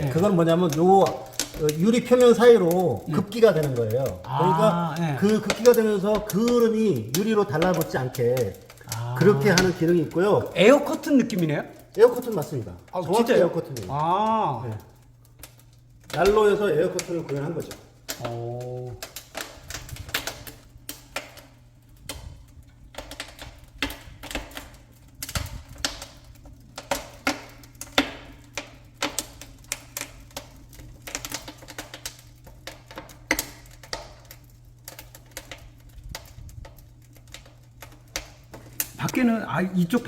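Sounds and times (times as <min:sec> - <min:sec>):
firewood crackling in stove: 0:00.0 - 0:40.0.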